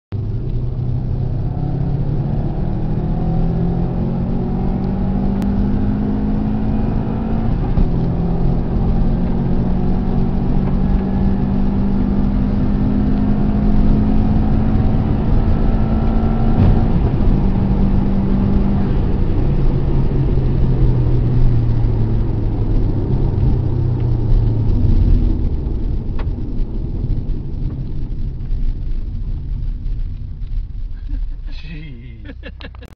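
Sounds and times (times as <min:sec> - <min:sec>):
heavy low rumble: 0:00.1 - 0:32.9
car engine running hard: 0:00.2 - 0:32.9.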